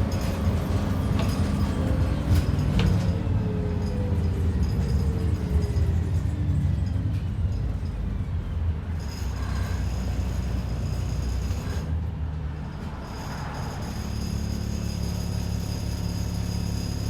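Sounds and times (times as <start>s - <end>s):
bus engine low rumble: 0.0s - 17.0s.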